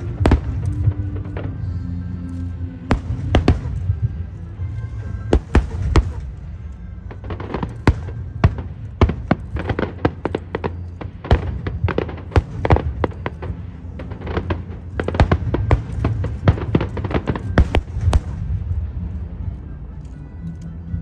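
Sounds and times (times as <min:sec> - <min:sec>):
fireworks bangs: 0:00.0 - 0:02.2, 0:02.8 - 0:19.4
music with low bass: 0:00.0 - 0:21.0.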